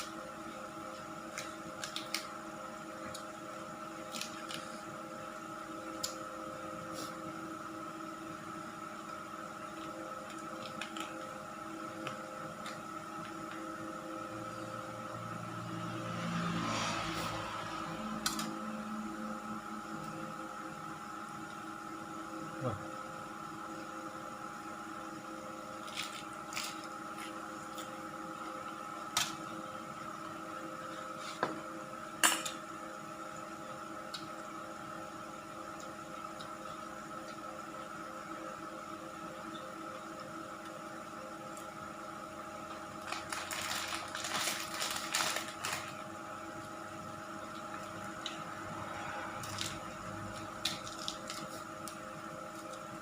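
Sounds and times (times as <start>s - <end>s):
steady machine hum: 0.0s - 53.0s.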